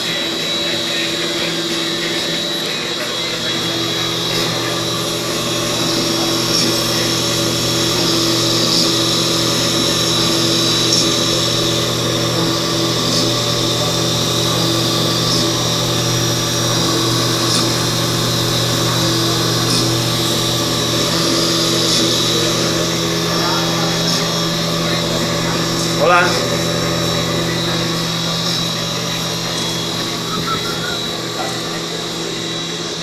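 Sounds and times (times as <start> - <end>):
cnc machine high whine: 0.0 - 33.0.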